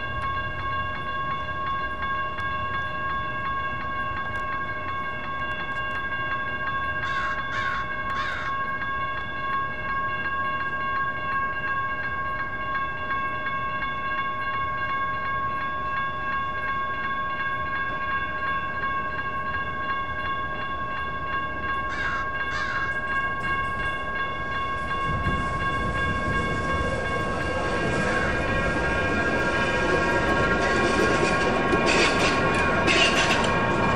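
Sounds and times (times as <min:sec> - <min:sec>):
light rail train rumble: 0:00.0 - 0:33.9
railroad crossing bells ringing: 0:00.0 - 0:33.9.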